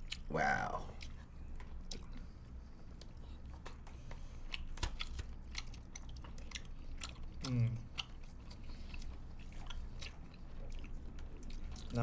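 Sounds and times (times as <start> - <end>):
chewing: 0.0 - 12.0
low steady hum: 0.0 - 12.0.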